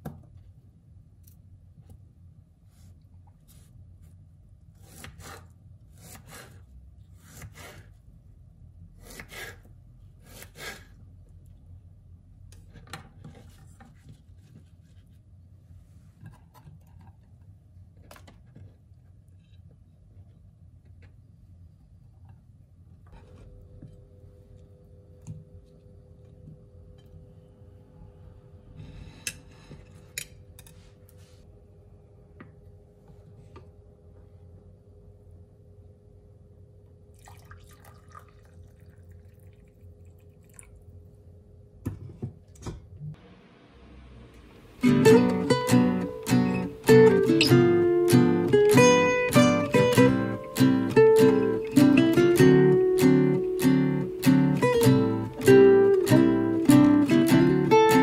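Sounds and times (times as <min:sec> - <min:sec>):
faint steady hum: 0:10.9 - 0:58.0.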